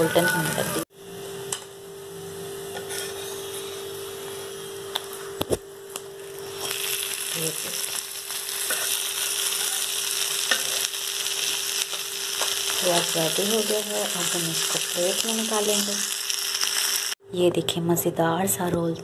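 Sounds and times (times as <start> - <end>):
roti sizzling on a pan: 0.0 - 17.2.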